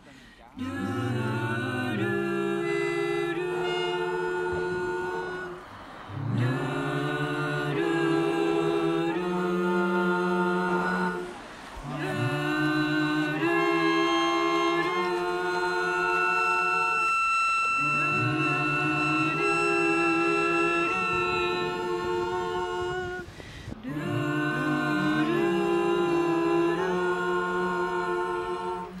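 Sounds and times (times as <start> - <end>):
slow choral music: 0.0 - 29.0.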